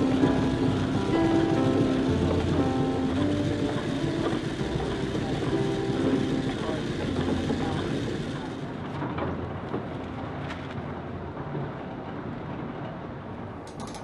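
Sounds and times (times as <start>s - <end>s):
mill machinery rumbling: 0.0s - 14.0s.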